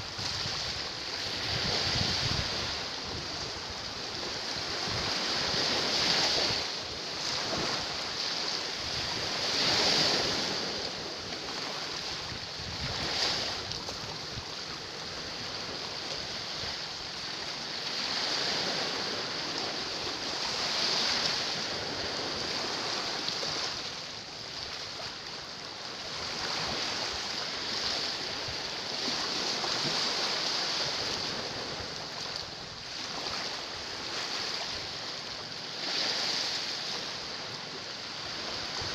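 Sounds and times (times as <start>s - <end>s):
waves washing against rocks: 0.0s - 38.9s.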